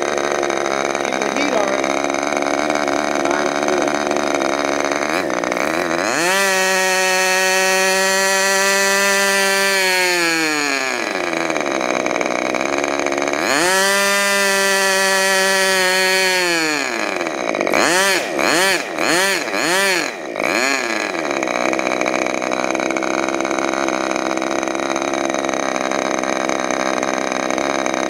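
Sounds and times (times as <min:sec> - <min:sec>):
model airplane engine revving: 0:00.0 - 0:28.0.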